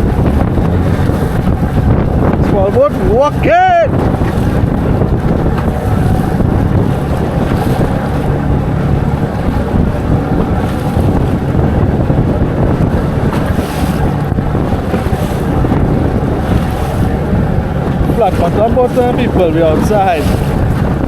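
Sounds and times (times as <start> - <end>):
boat motor hum: 0.0 - 21.0
water washing against hull: 0.0 - 21.0
wind on microphone: 0.0 - 21.0.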